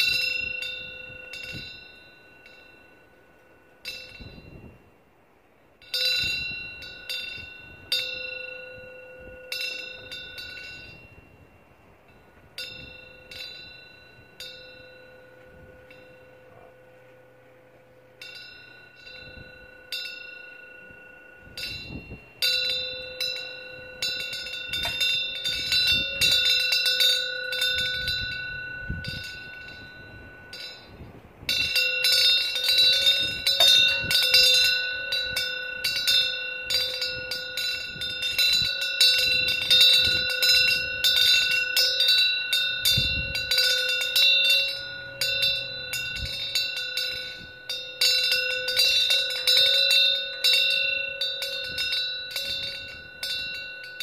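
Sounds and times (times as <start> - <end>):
low wind rumbles: 0.0 - 54.0
wind bell ringing: 0.0 - 54.0.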